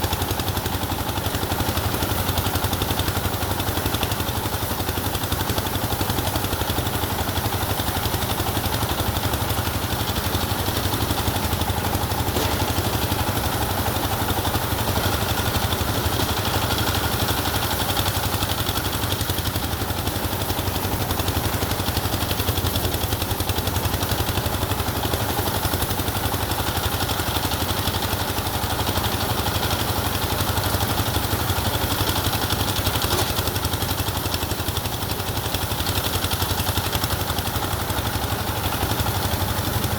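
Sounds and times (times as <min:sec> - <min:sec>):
engine running with low throb: 0:00.0 - 0:39.9.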